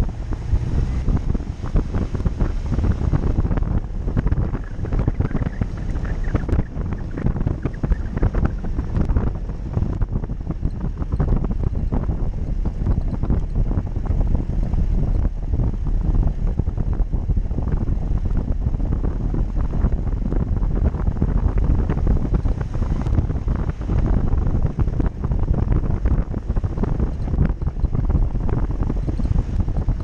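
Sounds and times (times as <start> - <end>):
low engine rumble: 0.0 - 30.0
wind buffeting microphone: 0.0 - 30.0.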